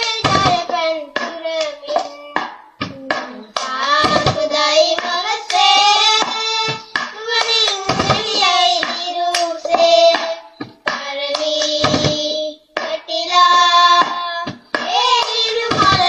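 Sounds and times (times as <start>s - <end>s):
boy singing: 0.0s - 16.0s
hand claps: 0.0s - 16.0s.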